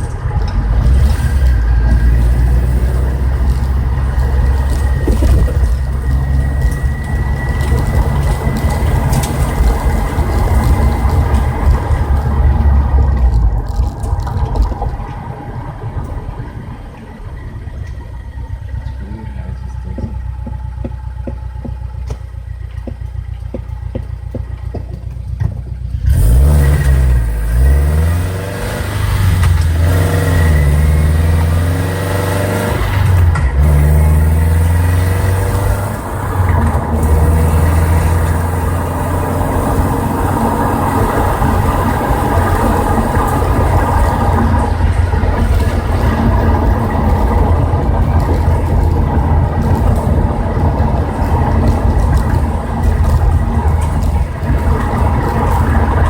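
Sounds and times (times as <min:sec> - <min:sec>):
car engine revving while driving: 0:00.0 - 0:17.1, 0:18.0 - 0:56.0.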